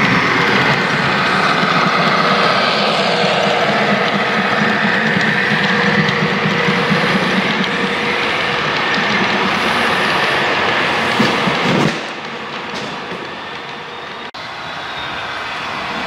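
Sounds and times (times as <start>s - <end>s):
model wagons rolling on track: 0.0s - 14.3s
model locomotive engine sound: 0.0s - 16.0s.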